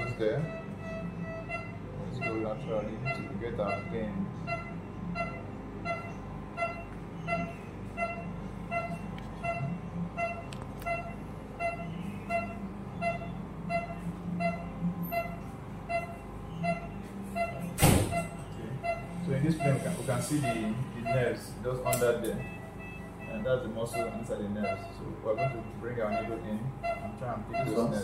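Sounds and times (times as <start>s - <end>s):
patient monitor beeps: 0.0s - 28.0s.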